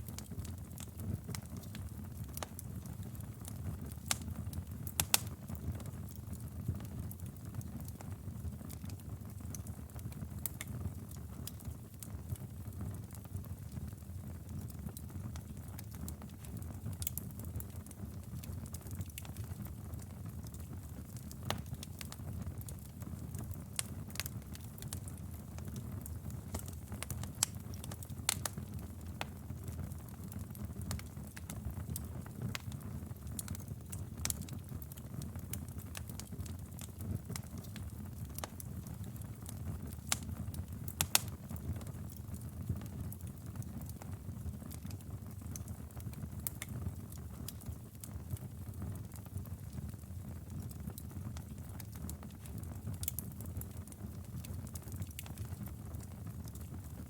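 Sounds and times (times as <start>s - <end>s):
low rumble of flames: 0.0s - 57.0s
sharp pops and snaps of fire: 0.0s - 57.0s
wood fire crackling: 0.0s - 57.0s.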